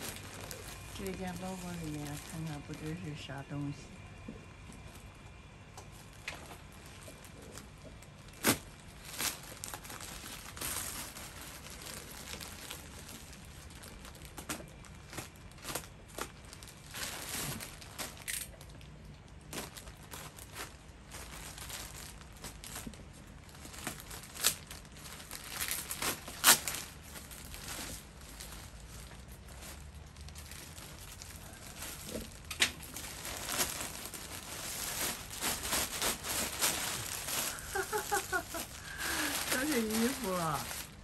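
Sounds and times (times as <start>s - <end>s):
plastic wrapping crinkling and tearing: 0.0s - 41.0s.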